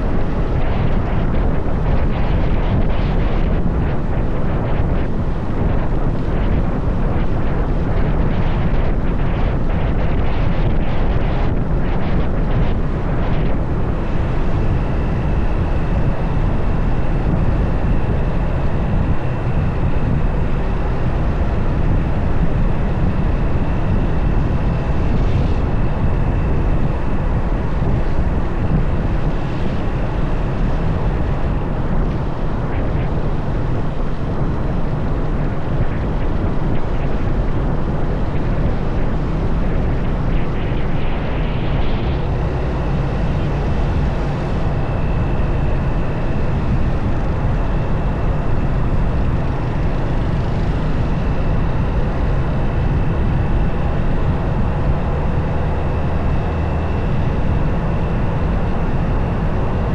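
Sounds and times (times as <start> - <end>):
faint high-pitched whine: 0.0 - 59.9
wind rumble on microphone: 0.0 - 59.9.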